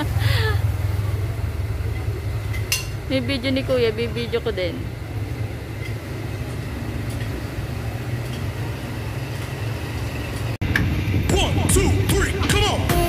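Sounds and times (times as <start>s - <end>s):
low hum of traffic: 0.0s - 13.0s.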